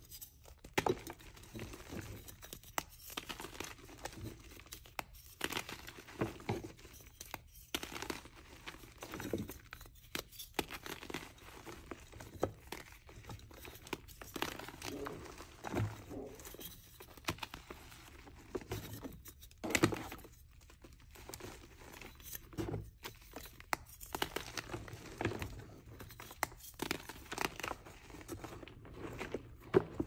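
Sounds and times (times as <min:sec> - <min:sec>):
chalk crunching and crumbling: 0:00.0 - 0:30.0.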